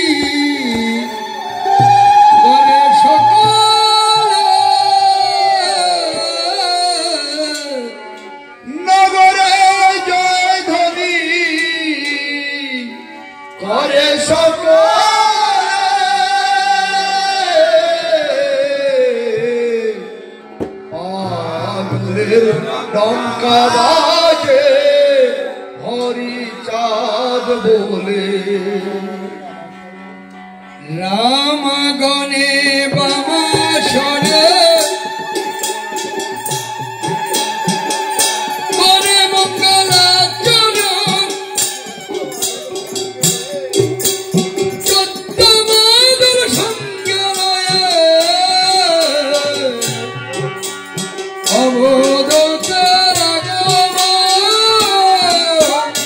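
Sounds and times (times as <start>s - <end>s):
person singing devotional song: 0.0s - 20.3s, 20.9s - 29.8s, 30.8s - 56.0s
drum accompaniment: 0.0s - 27.5s, 31.0s - 56.0s.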